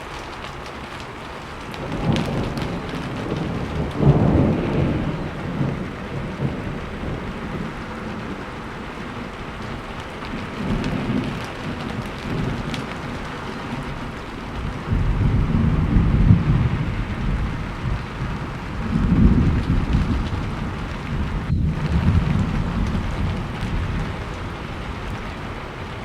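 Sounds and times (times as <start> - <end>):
heavy rain hissing: 0.0 - 26.0
thunder rumbling: 0.0 - 26.0.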